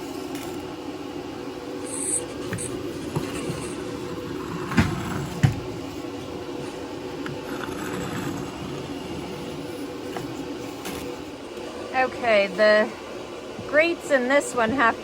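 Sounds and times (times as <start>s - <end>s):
air filter fan humming: 0.0s - 15.0s.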